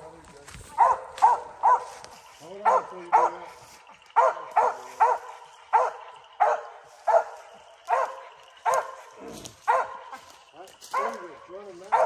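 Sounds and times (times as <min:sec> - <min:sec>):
dog barking: 0:00.8 - 0:12.0.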